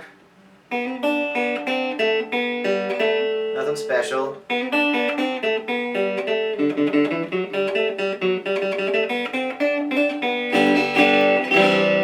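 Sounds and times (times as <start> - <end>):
plucked electric banjo notes: 0.0 - 12.0.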